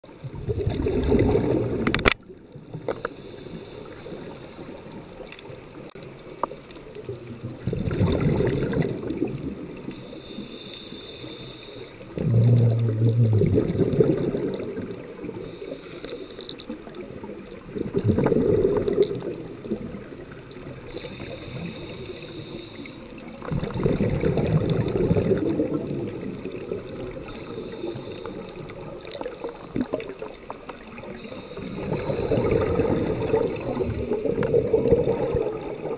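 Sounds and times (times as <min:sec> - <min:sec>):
exhaled bubbles gurgling underwater: 0:00.0 - 0:35.9
quiet regulator hiss: 0:02.7 - 0:07.1, 0:09.4 - 0:13.2, 0:13.9 - 0:23.5, 0:24.8 - 0:35.9.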